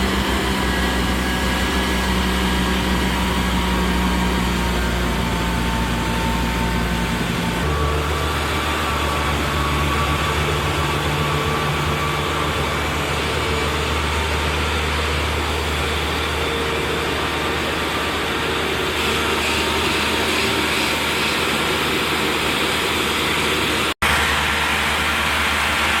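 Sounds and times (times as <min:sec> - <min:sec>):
snow-removal machine engine: 0:00.0 - 0:26.0.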